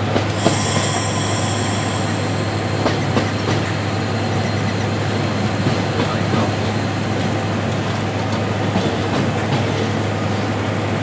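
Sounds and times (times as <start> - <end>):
diesel locomotive engine drone: 0.0 - 11.0.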